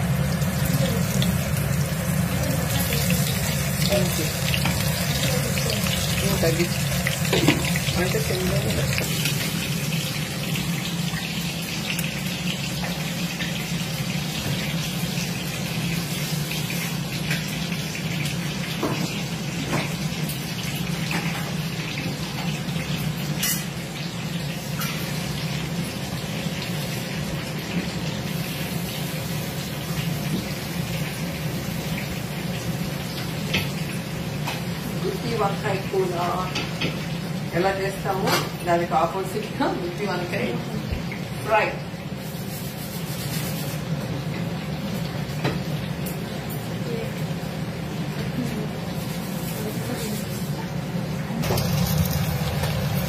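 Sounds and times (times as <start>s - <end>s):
vegetables sizzling in hot oil: 0.0s - 53.0s.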